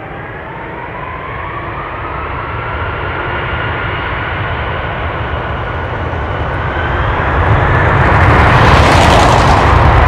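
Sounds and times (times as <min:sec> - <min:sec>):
jet engines at takeoff power: 0:00.0 - 0:10.0.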